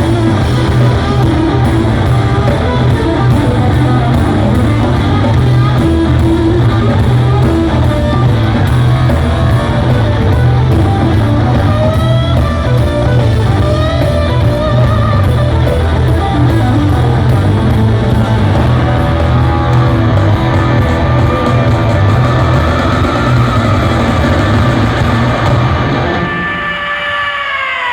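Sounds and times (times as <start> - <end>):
heavy bass: 0.0 - 27.1
electric guitar: 0.0 - 27.9
rock band playing live: 0.0 - 27.9.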